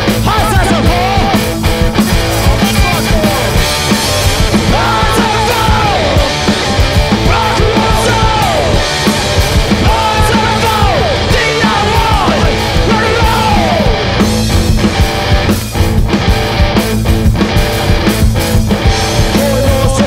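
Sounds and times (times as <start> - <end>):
distorted guitar: 0.0 - 20.0
drums: 0.0 - 20.0
punk blues band playing live: 0.0 - 20.0
sliding lead guitar line: 0.0 - 20.0.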